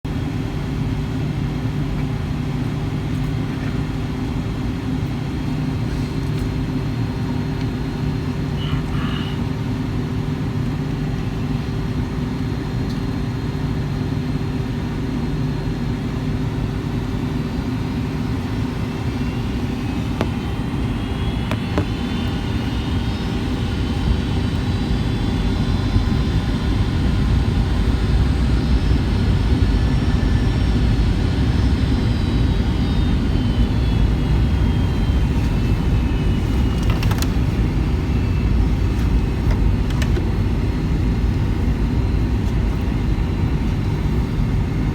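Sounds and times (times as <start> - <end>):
airliner cabin engine rumble: 0.1 - 44.9.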